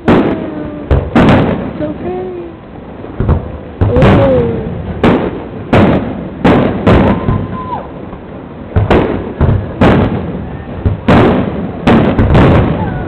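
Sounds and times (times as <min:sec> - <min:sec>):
fireworks bangs with rumbling echo: 0:00.0 - 0:13.0.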